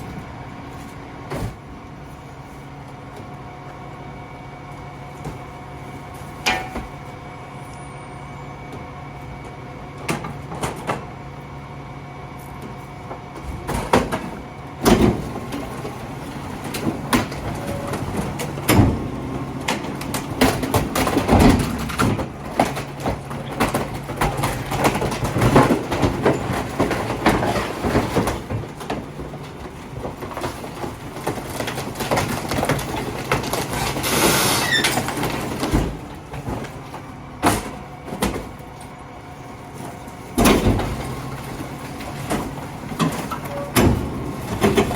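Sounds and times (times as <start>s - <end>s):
bangs and clanks of bin: 0.0s - 1.9s, 5.0s - 7.2s, 9.5s - 11.3s, 12.6s - 44.9s
garbage truck engine running: 0.0s - 44.9s.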